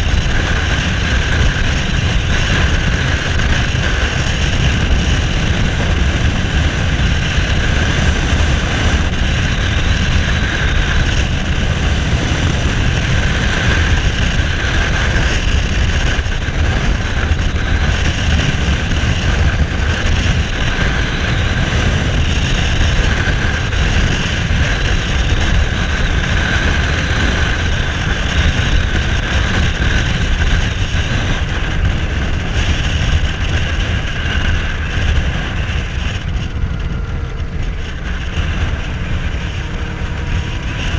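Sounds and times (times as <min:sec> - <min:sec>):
motorcycle engine running: 0:00.0 - 0:40.9
wind on microphone: 0:00.0 - 0:40.9.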